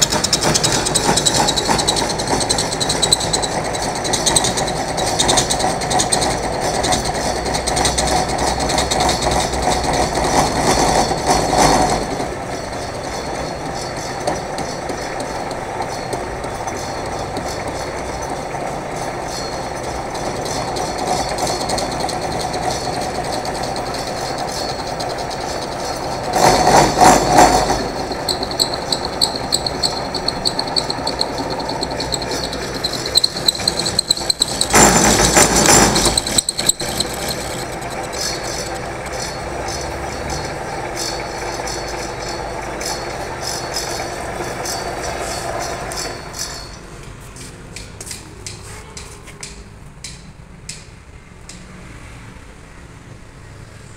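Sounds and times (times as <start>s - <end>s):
metal lathe running: 0.0s - 47.5s.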